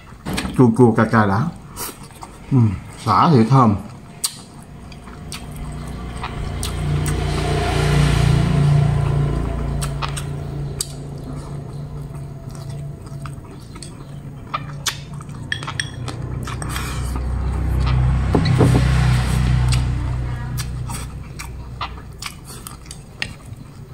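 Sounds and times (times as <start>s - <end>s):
chewing crispy fried pork: 1.5s - 23.9s.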